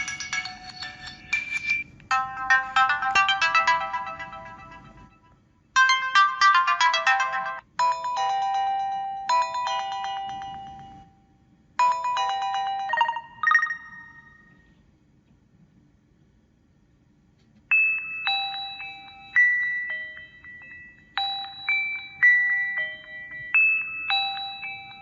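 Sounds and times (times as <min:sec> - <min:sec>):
bell-like chimes: 0:00.0 - 0:05.2, 0:05.8 - 0:14.6, 0:17.7 - 0:25.0
electronic ringtone melodies: 0:00.0 - 0:11.2, 0:11.8 - 0:14.7, 0:17.7 - 0:25.0.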